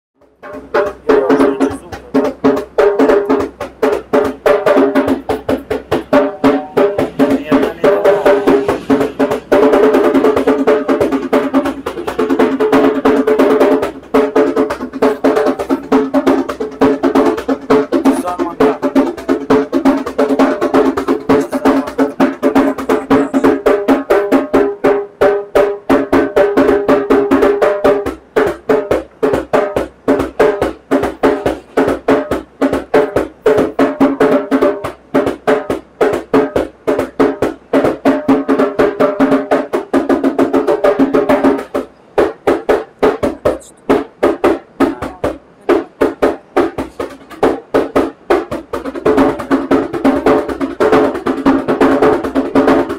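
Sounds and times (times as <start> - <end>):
hand drum played fast: 0.2 - 52.9.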